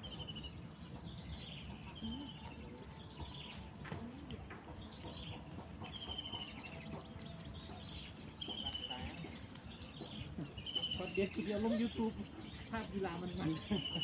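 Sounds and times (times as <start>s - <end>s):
birds trilling: 0.0s - 14.0s.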